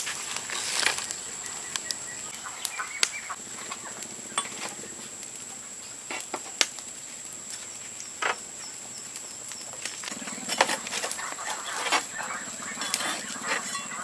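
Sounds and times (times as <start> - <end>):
fire hissing: 0.0 - 14.0
wood fire crackling in stove: 0.0 - 14.0.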